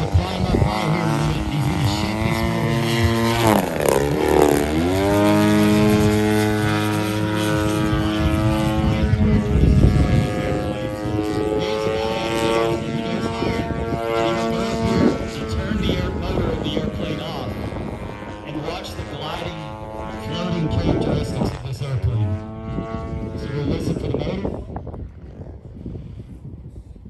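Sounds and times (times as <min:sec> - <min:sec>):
model plane engine and propeller: 0:00.0 - 0:27.0.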